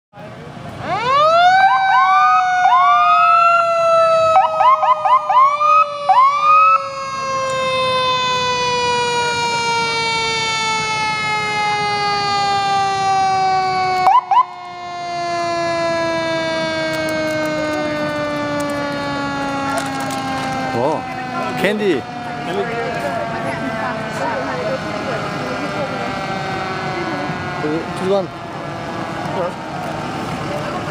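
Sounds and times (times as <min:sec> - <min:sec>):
fire engine siren wailing: 0:00.3 - 0:30.9.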